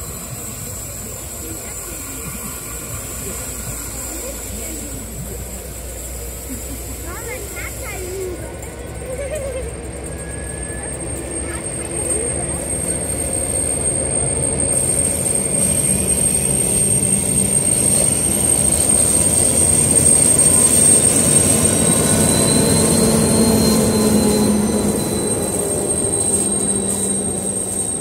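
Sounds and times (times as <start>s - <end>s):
diesel locomotive rumble and whine: 0.0s - 28.0s.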